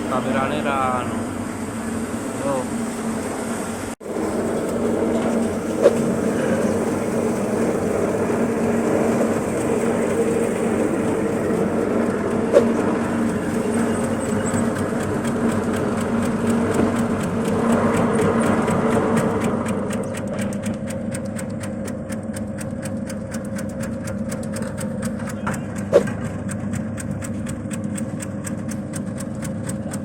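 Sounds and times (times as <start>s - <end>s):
slicing machine humming: 0.0s - 30.0s.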